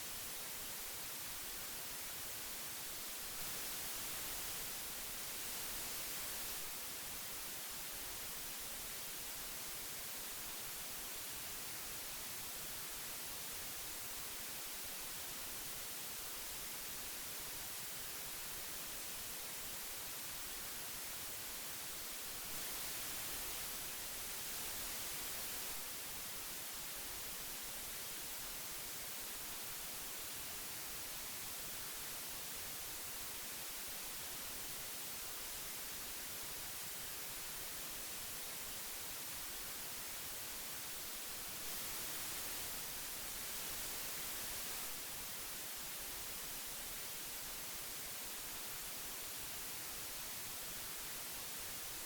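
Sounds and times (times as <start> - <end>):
magnetic tape hiss: 0.0 - 52.0.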